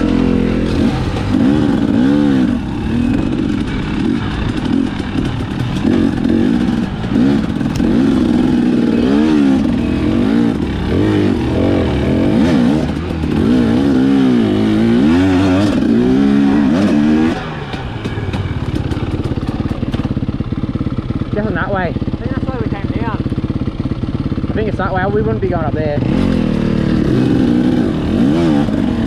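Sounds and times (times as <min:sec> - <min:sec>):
clatter: 0:00.0 - 0:24.6
dirt bike engine revving: 0:00.0 - 0:29.0.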